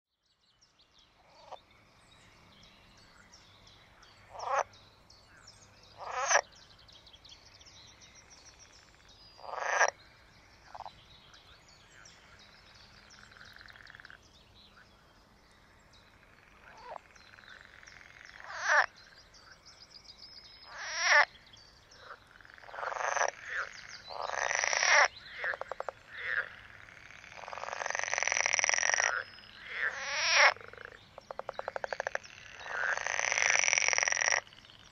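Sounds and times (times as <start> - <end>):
frogs croaking: 1.1 - 2.4, 3.0 - 34.9.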